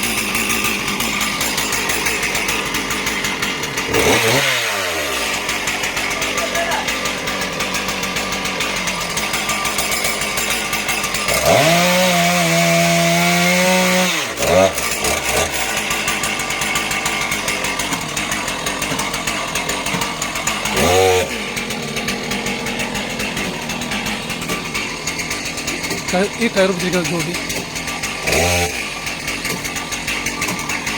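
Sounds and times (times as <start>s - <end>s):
chainsaw idling and revving: 0.0s - 30.9s.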